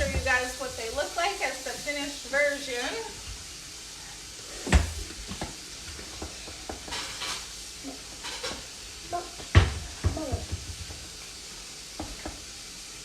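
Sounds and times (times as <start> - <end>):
burgers sizzling in a frying pan: 0.0 - 13.0.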